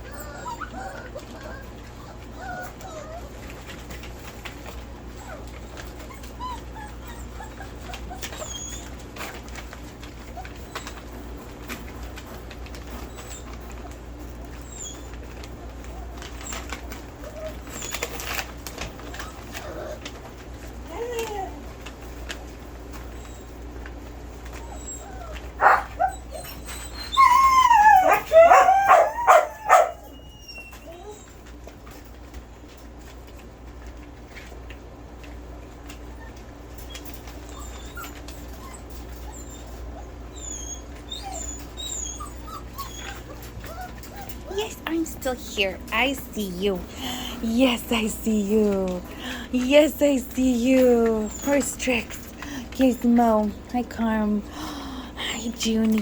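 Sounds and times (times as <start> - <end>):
dogs whimpering: 0.0 - 56.0.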